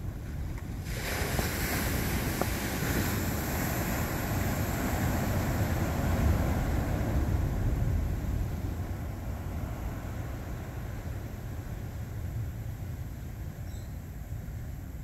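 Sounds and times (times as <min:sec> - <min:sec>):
wind buffeting microphone: 0:00.0 - 0:13.2
ocean surf washing in: 0:00.7 - 0:13.1.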